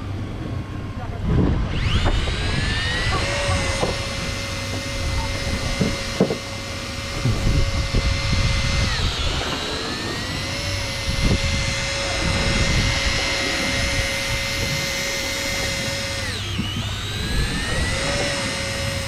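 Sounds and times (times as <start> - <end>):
fishing reel motor whining: 0.0 - 19.0.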